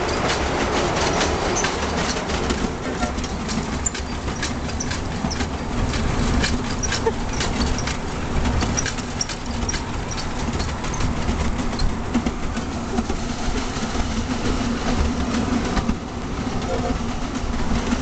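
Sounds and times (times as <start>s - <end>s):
miniature train rumbling: 0.0s - 18.0s
wheels clicking on rails: 0.0s - 18.0s.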